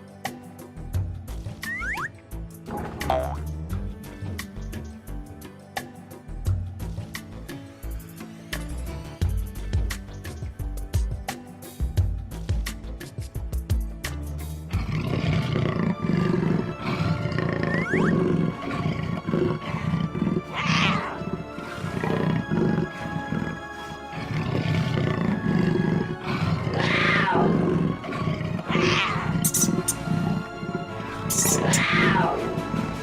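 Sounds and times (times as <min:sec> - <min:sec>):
background music with pulsing bass: 0:00.0 - 0:33.0.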